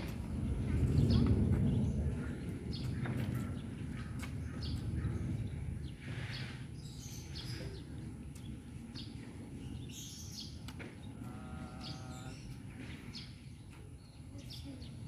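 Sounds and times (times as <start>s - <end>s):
low outdoor rumble: 0.0s - 6.1s, 6.8s - 15.0s
birds chirping: 0.3s - 15.0s.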